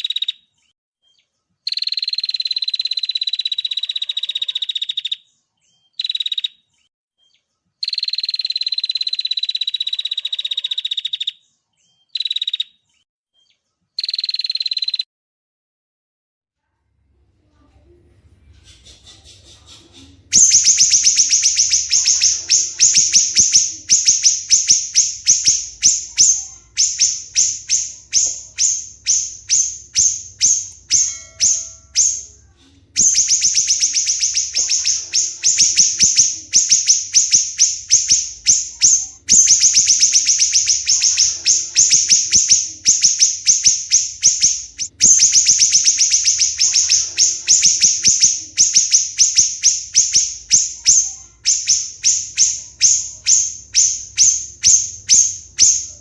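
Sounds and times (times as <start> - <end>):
songbird singing fast chattering song: 0.0 - 0.4, 1.7 - 5.2, 5.8 - 6.6, 7.8 - 11.4, 12.1 - 12.7, 14.0 - 15.0, 20.1 - 32.4, 33.0 - 56.0.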